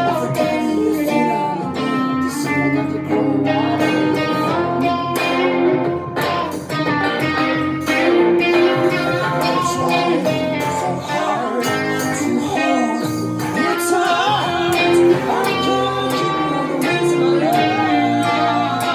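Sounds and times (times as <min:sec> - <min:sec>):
person singing: 0:00.0 - 0:18.9
strummed guitar: 0:00.0 - 0:18.9.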